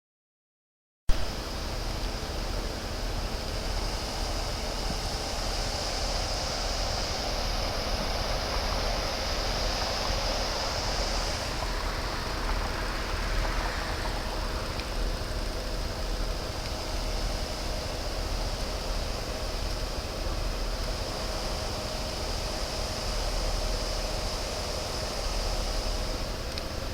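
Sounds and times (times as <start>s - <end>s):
truck running: 1.1s - 26.9s.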